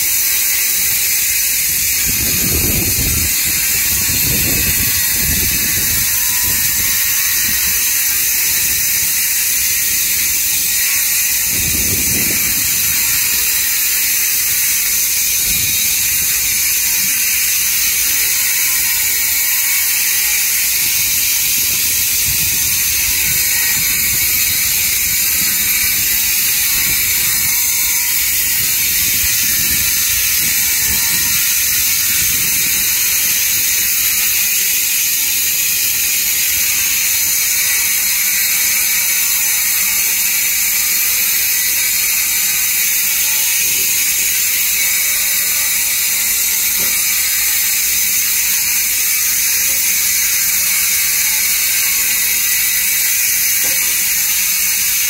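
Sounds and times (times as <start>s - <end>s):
angle grinder cutting concrete: 0.0s - 55.0s.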